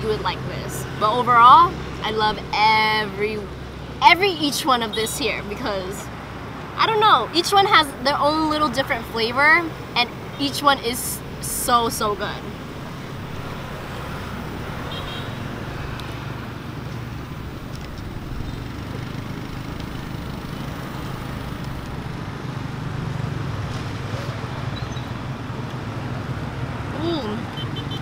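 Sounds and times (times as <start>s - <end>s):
low hum: 0.0s - 26.8s
road vehicles passing: 0.0s - 28.0s.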